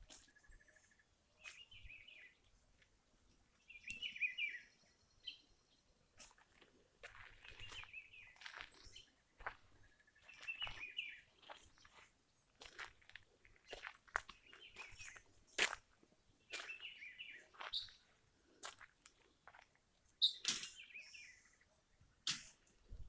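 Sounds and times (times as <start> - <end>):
songbird chirpy song: 0.0 - 23.0.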